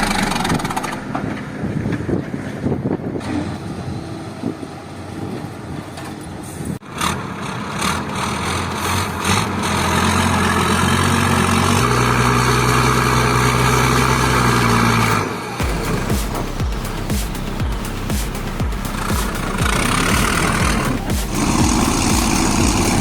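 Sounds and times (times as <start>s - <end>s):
heavy truck engine running: 0.0s - 2.6s, 3.3s - 23.0s.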